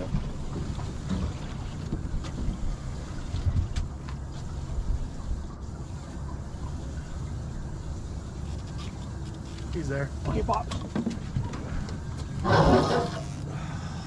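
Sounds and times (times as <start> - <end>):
wind rumble on microphone: 0.0 - 13.4.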